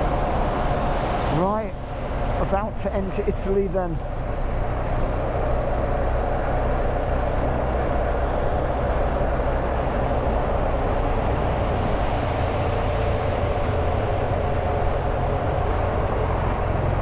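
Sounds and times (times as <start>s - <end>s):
road noise: 0.0s - 17.0s
wind noise: 0.0s - 17.0s.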